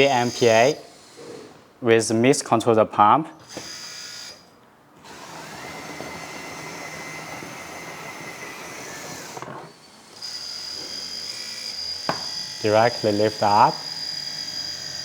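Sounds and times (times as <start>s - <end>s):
hydraulic pump whirring: 0.0s - 1.6s, 3.4s - 15.0s.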